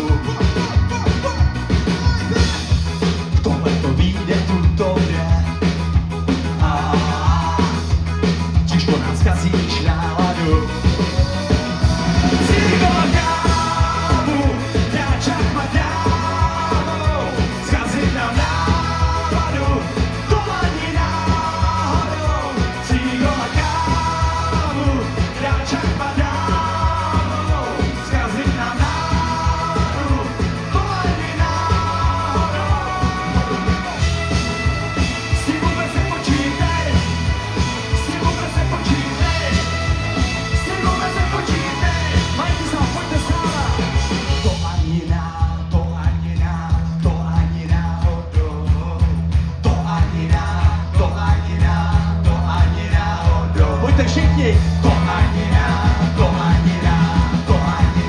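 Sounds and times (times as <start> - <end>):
ska-punk band music: 0.0 - 58.0.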